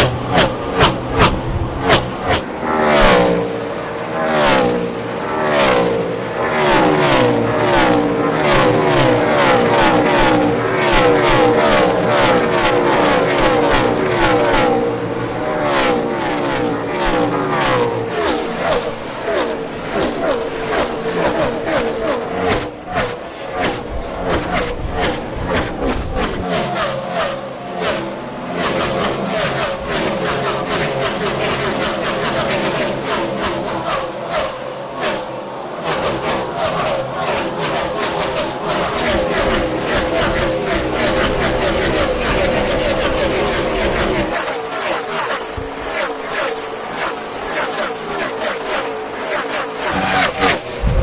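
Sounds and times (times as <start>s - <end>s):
race cars passing by: 0.0s - 51.0s.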